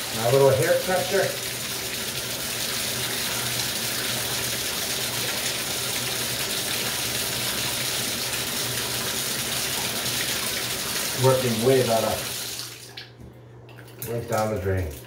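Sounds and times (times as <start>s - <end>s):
bathtub faucet running: 0.0s - 15.0s.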